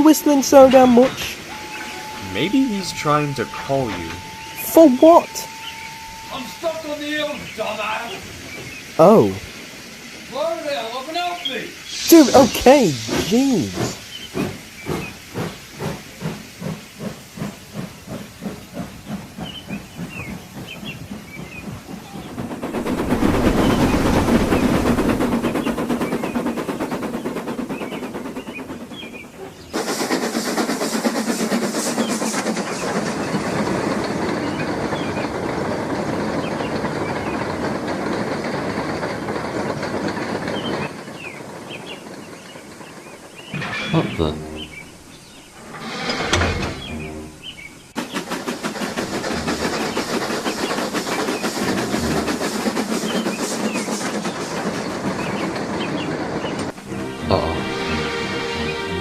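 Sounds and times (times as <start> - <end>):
rush of steam and running gear: 0.0 - 46.2, 46.9 - 57.2
loud hiss of steam: 0.0 - 59.0
steam locomotive chuffing: 0.0 - 59.0.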